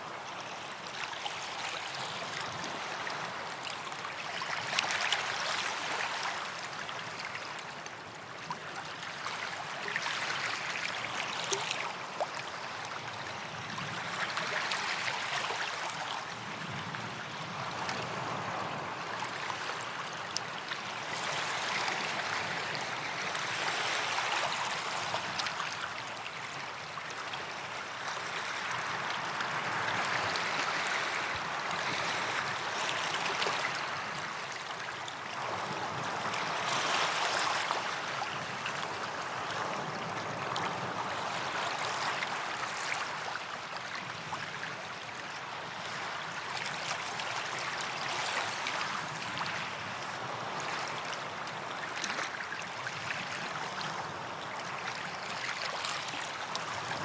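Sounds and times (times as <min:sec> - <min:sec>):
waves washing onto beach: 0:00.0 - 0:57.0.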